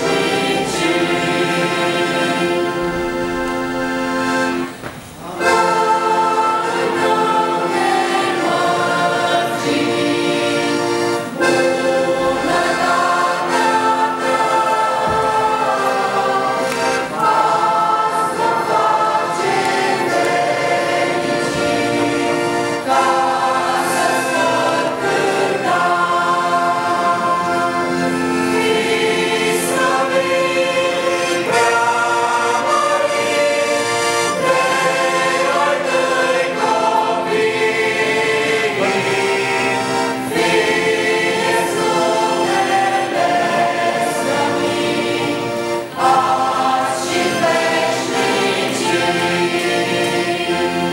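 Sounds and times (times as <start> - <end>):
church choir singing a hymn: 0.0 - 50.9.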